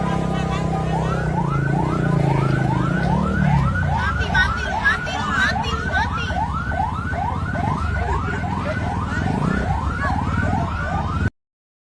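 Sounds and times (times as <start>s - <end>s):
electronic siren whooping: 0.0s - 11.3s.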